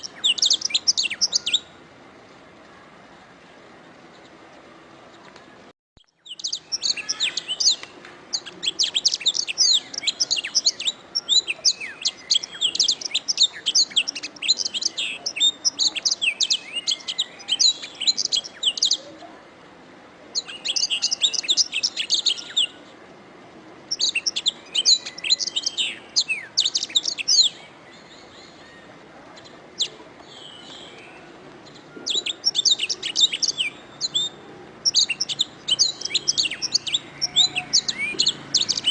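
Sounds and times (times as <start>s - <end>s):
canary singing: 0.0s - 1.8s, 6.0s - 19.1s, 20.3s - 22.9s, 23.9s - 38.9s.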